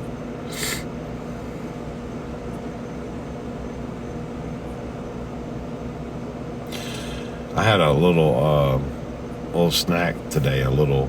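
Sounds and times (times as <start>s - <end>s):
low mechanical hum with tones: 0.0s - 11.0s.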